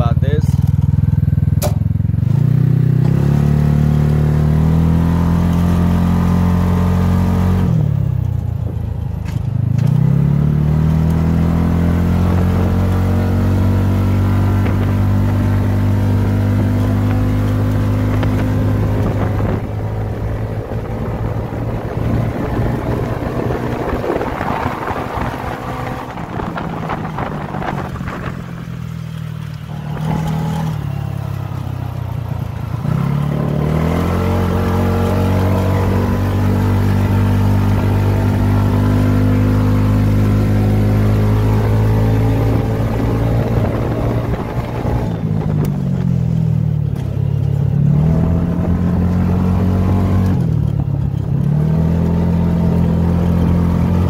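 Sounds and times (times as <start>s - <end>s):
utility vehicle engine driving: 0.0s - 54.0s.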